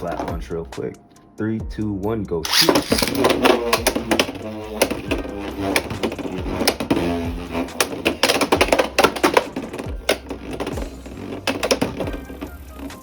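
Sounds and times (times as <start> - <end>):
spinning top clacking on rail: 2.5 - 13.0.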